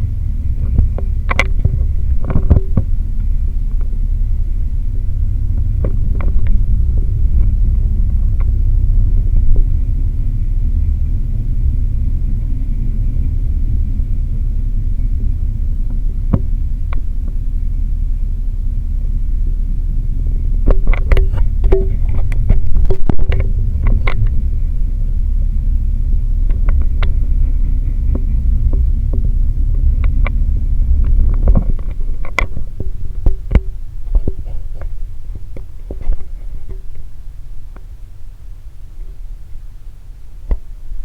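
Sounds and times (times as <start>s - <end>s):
freight train rumbling: 0.0s - 41.0s
wheels clicking on rails: 0.0s - 41.0s.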